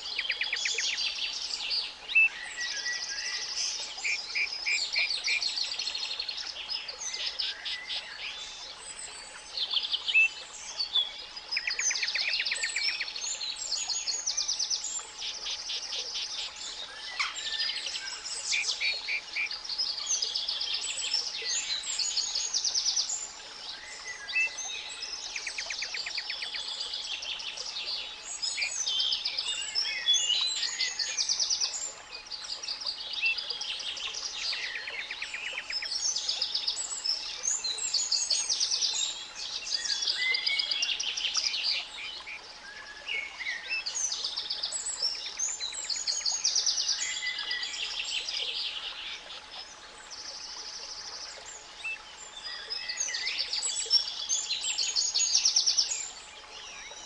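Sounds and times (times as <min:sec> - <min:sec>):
songbirds singing in chorus: 0:00.0 - 0:57.0.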